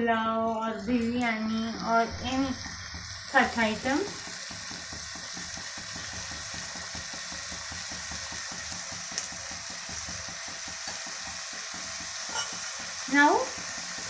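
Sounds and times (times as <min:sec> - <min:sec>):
vegetables sizzling in oil: 0:00.7 - 0:14.0.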